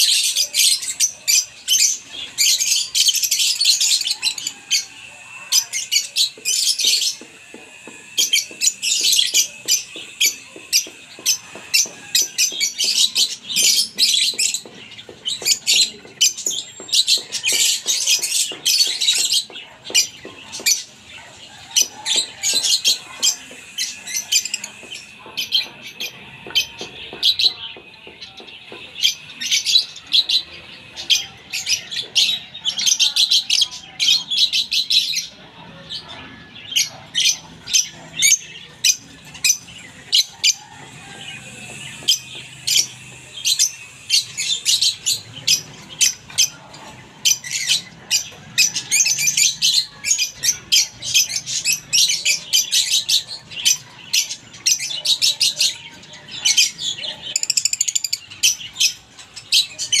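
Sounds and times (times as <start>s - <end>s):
lovebirds chirping: 0.0s - 60.0s.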